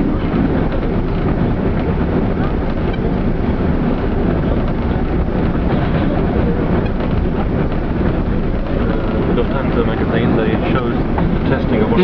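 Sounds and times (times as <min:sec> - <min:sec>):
airliner cabin rumble and hiss: 0:00.0 - 0:12.0.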